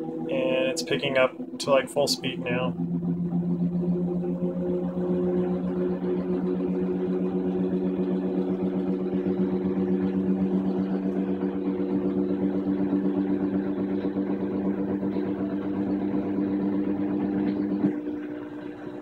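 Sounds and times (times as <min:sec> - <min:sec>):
washing machine spinning hum: 0:00.0 - 0:19.0.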